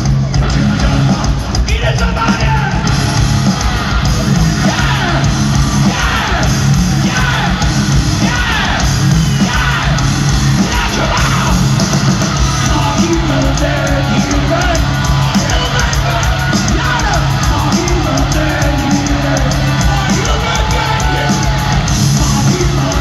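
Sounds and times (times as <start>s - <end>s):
live heavy metal band: 0.0s - 23.0s
shouted vocals: 0.3s - 23.0s.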